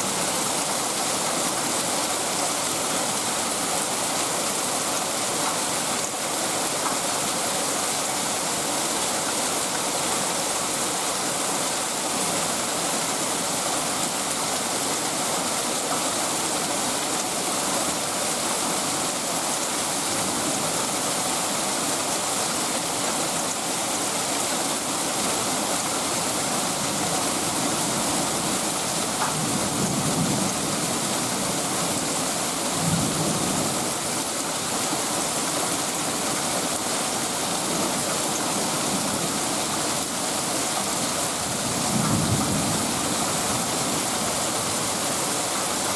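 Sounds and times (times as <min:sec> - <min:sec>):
heavy rain downpour: 0:00.0 - 0:45.9.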